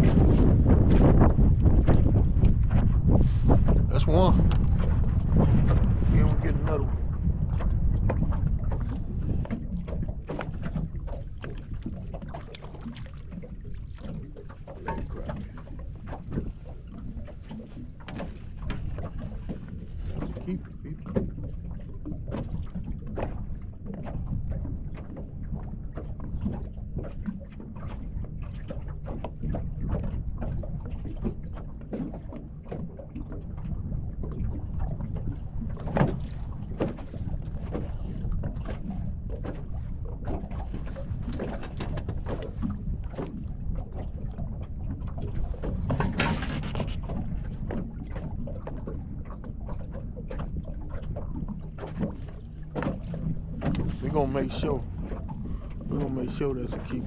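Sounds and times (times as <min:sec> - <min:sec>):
water slapping against boat: 0:00.0 - 0:57.0
wind buffeting microphone: 0:00.0 - 0:57.0.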